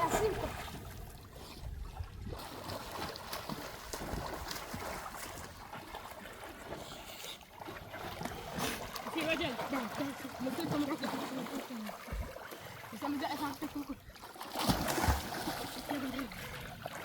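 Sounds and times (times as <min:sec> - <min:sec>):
river water sloshing and trickling: 0:00.0 - 0:17.0
small water splashes: 0:00.0 - 0:17.0.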